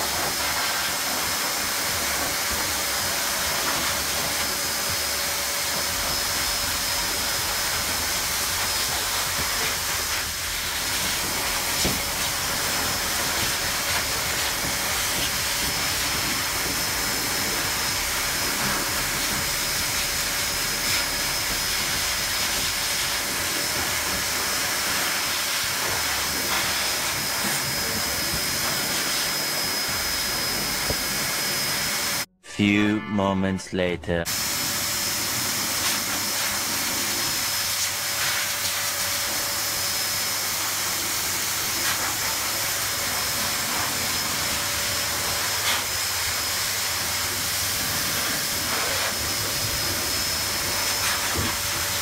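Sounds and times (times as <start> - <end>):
blower dryer hissing and whining: 0.0 - 32.3, 34.3 - 52.0.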